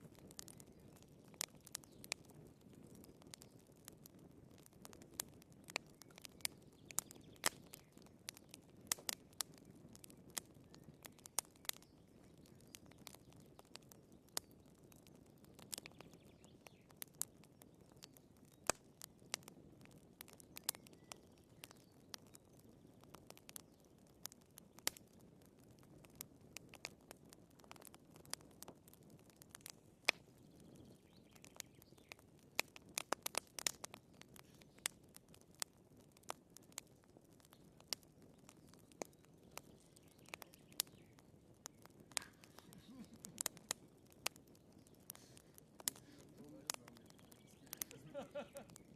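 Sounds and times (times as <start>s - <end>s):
firewood popping and snapping: 0.0s - 48.9s
low hiss of flames: 0.0s - 48.9s.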